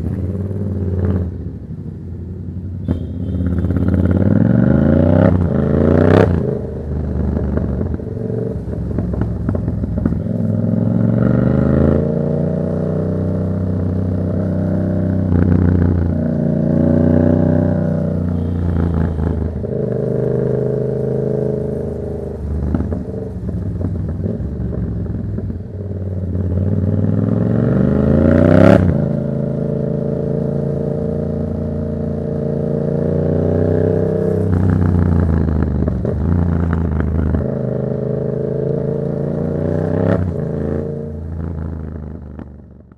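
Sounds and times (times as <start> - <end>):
motorcycle engine accelerating: 2.8 - 42.9.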